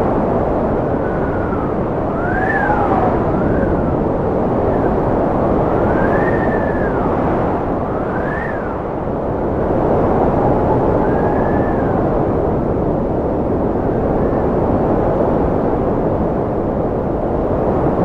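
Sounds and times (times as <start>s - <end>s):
strong wind howling: 0.0s - 18.0s.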